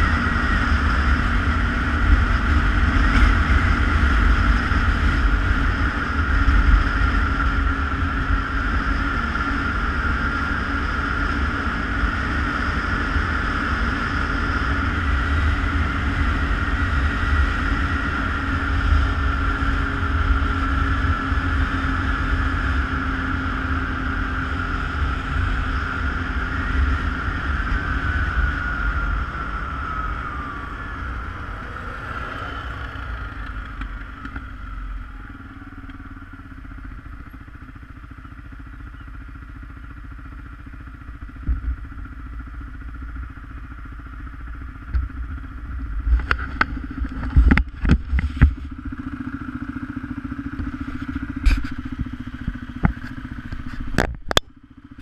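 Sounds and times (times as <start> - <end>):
wind rumble on microphone: 0.0 - 37.8, 41.2 - 55.0
engine running: 0.0 - 55.0
high whine: 0.0 - 55.0.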